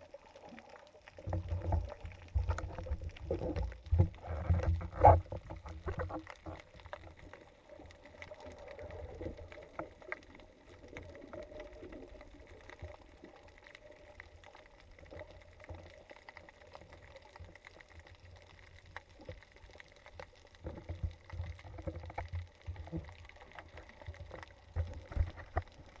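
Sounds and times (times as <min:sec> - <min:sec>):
faint clicks and knocks: 0:00.0 - 0:26.0
muffled underwater water rumble: 0:00.0 - 0:26.0.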